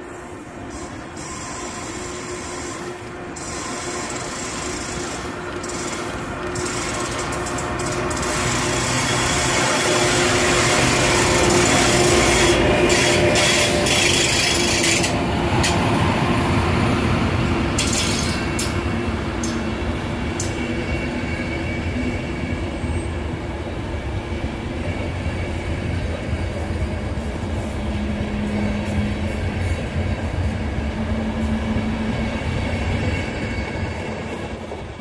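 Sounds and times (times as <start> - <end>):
train rolling past: 0.0 - 35.0
locomotive hum: 0.3 - 35.0.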